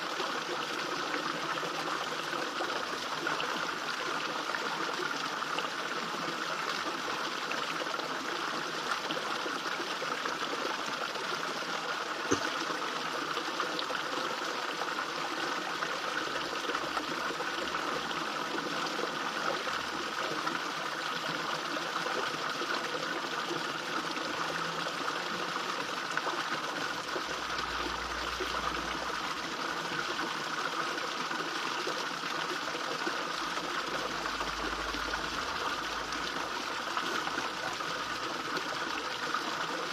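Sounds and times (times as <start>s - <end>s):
waterfall splashing into pond: 0.0s - 39.9s.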